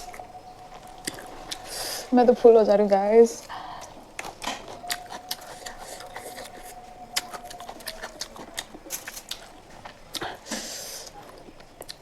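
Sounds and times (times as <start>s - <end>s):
person chewing food: 0.0s - 2.1s, 3.4s - 12.0s
faint steady tone: 0.0s - 11.8s.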